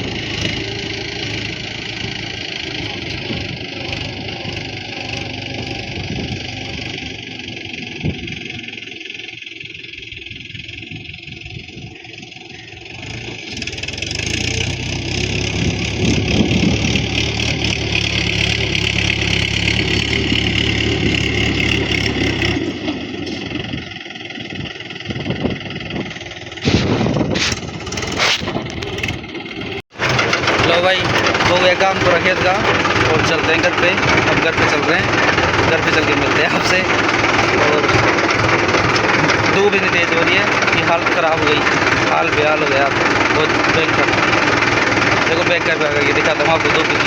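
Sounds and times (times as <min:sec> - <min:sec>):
tractor engine under load: 0:00.0 - 0:47.0.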